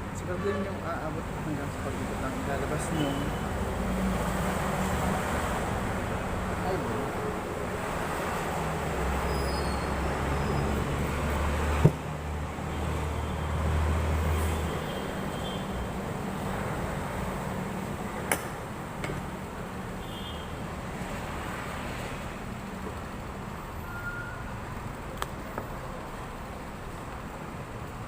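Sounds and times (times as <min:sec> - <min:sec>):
background traffic noise: 0:00.0 - 0:28.0.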